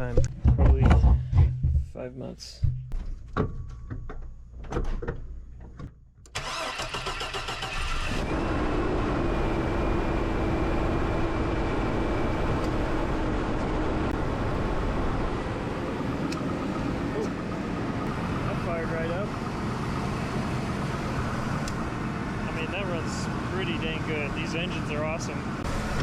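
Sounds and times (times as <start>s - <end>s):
engine cranking and idling: 3.2s - 26.0s.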